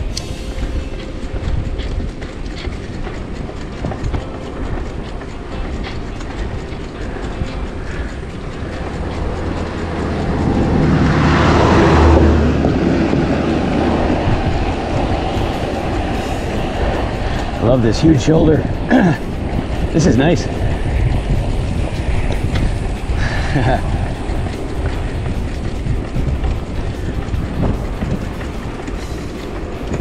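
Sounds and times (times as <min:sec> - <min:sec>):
bicycle rattling: 0:00.0 - 0:30.0
bicycle road noise: 0:00.0 - 0:30.0
motor vehicle passing: 0:00.0 - 0:30.0.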